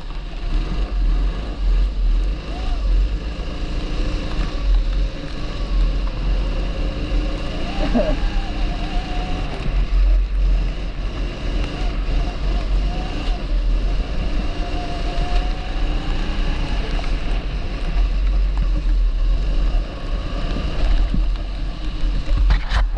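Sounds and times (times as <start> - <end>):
kart engine running: 0.0 - 22.9.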